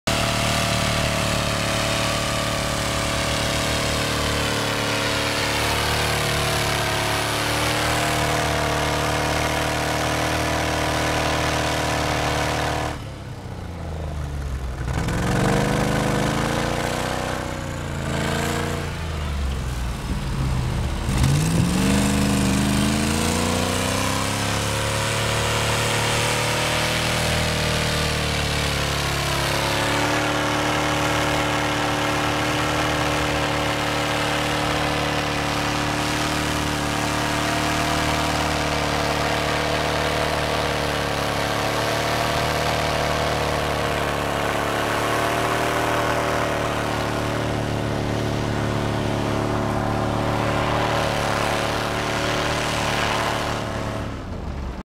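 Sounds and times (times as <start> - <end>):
car engine revving: 0.0 - 54.8.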